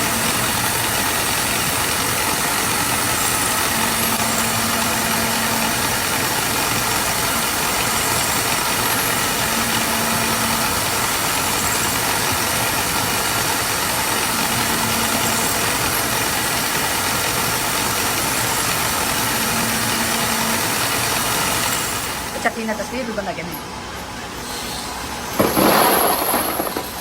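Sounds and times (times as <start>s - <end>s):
factory machinery noise: 0.0s - 27.0s
low machine hum: 0.0s - 27.0s.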